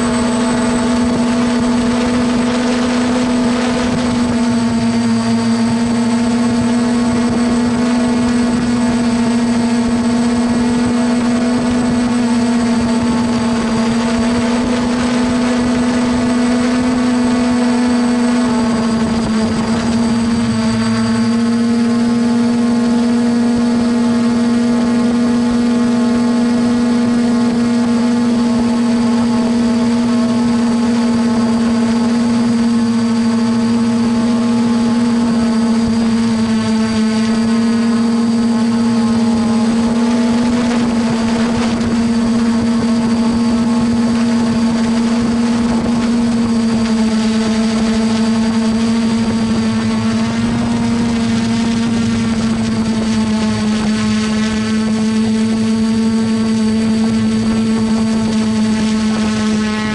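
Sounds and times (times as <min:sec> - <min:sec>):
drone motors and propellers humming: 0:00.0 - 0:59.9.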